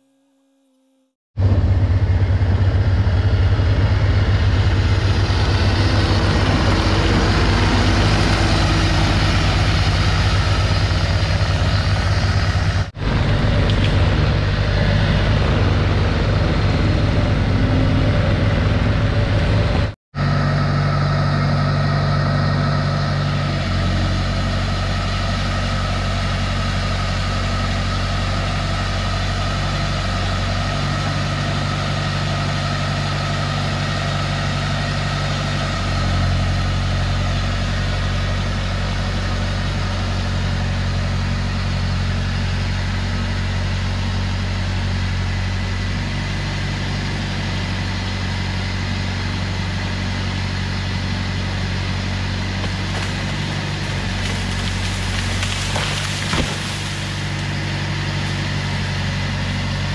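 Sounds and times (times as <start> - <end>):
heavy equipment engine running: 1.4 - 59.9.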